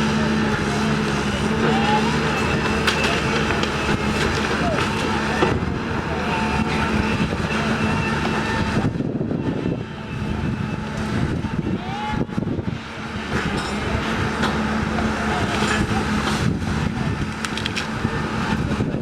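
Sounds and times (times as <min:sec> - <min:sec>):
outdoor noise: 0:00.0 - 0:19.0
vehicle engine running: 0:00.0 - 0:19.0.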